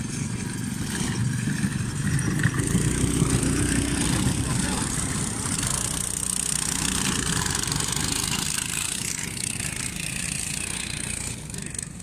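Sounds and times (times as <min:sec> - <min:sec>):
small single-cylinder engine running: 0:00.0 - 0:12.0.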